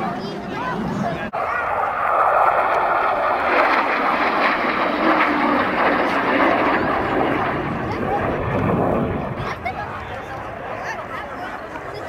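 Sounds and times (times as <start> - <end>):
jet engine flying past: 0.0 - 12.0.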